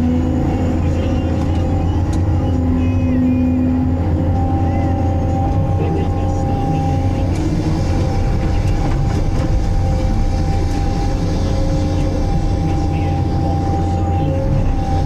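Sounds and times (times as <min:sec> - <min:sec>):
machine engine drone: 0:00.0 - 0:15.0.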